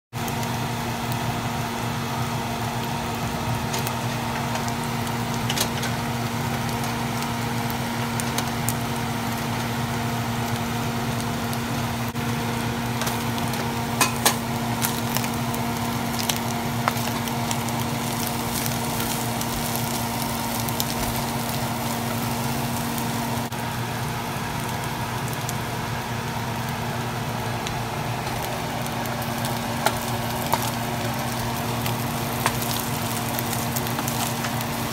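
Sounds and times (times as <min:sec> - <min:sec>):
fish sizzling in a pan: 0:00.2 - 0:34.9
steady hum: 0:00.2 - 0:34.9.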